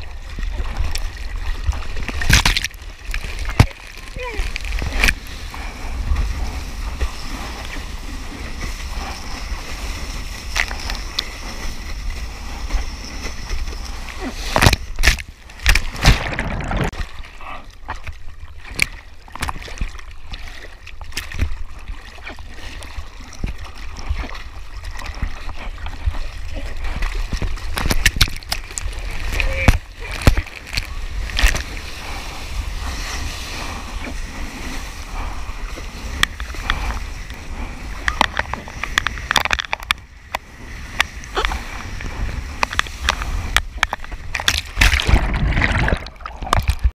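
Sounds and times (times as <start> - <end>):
water splashing against surfboard: 0.0 - 46.9.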